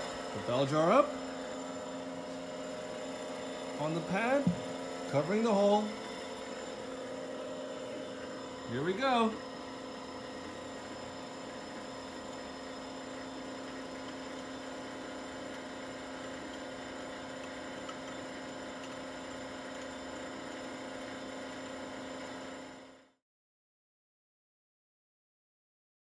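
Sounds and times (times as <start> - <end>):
vacuum pump humming: 0.0 - 23.0.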